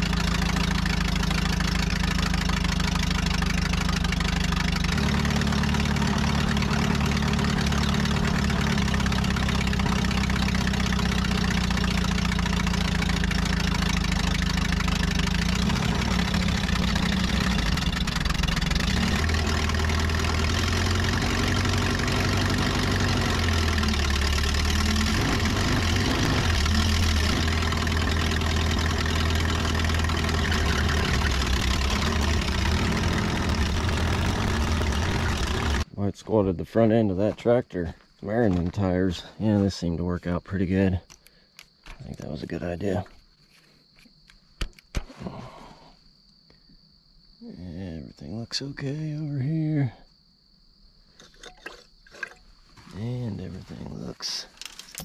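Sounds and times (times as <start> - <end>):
tractor engine running: 0.0 - 43.2, 51.2 - 55.0.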